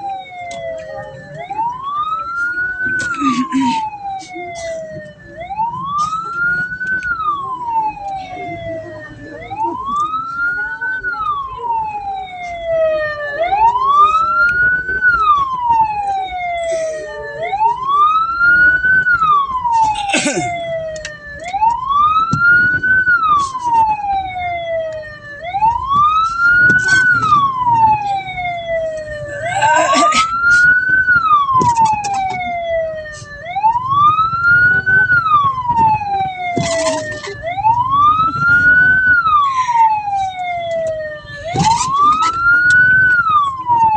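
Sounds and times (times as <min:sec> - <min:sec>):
siren wailing: 0:00.0 - 0:43.9.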